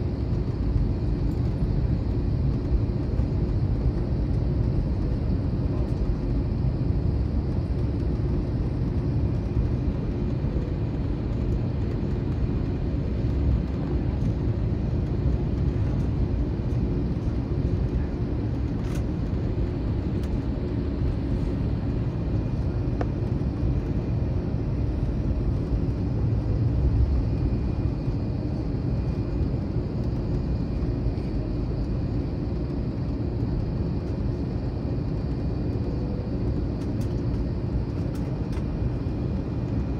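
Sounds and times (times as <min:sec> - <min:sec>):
faint steady whine: 0:00.0 - 0:39.9
low rumble of jet engines: 0:00.0 - 0:39.9.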